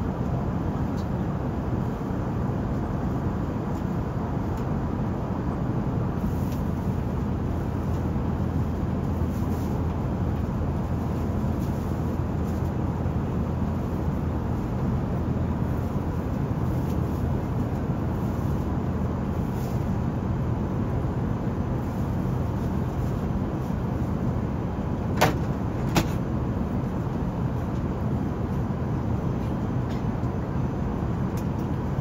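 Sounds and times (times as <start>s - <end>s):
aircraft cabin engine rumble: 0.0s - 32.0s.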